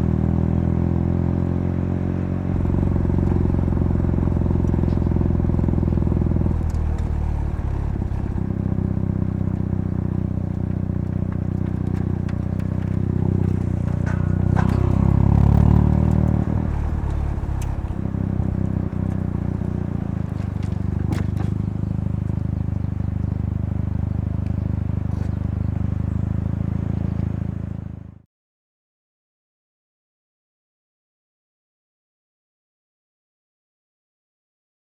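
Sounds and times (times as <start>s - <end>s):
rotary car engine running: 0.0s - 28.2s.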